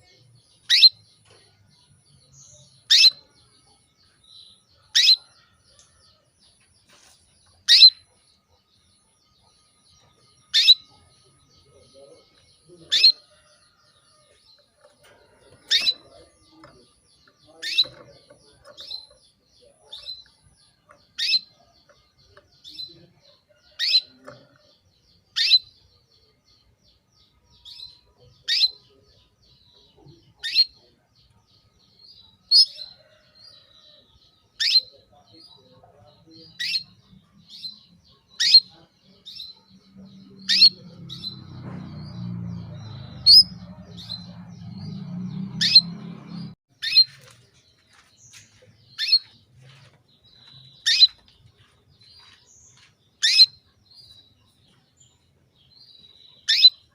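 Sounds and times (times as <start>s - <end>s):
canary chirping: 0.0s - 56.9s.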